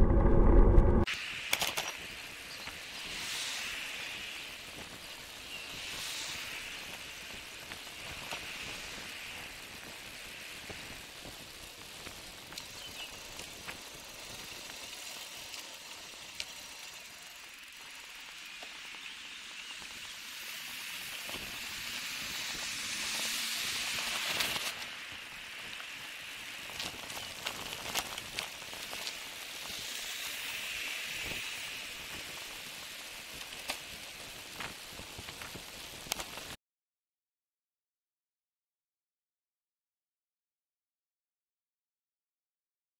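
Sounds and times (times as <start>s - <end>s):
wind: 0.0s - 36.6s
bicycle tyre hiss: 1.1s - 36.6s.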